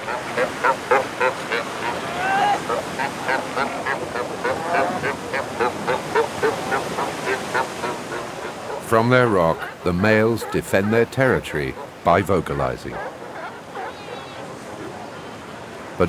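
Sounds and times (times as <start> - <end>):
seals bleating calls: 0.0 - 16.0.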